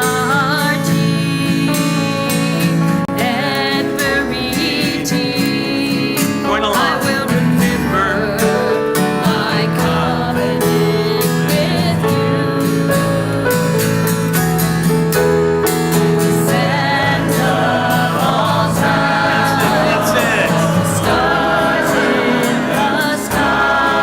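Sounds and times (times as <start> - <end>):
congregation singing with instruments: 0.0 - 24.0.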